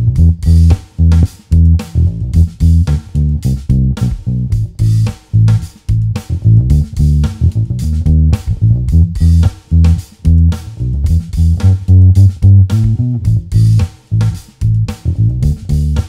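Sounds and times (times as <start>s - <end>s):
bass guitar line: 0.0s - 16.0s.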